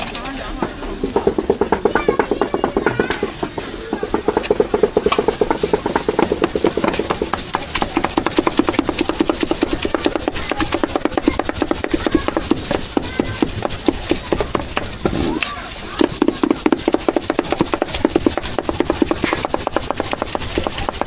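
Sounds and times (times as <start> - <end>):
cleaver chopping on wooden board: 1.2 - 21.0.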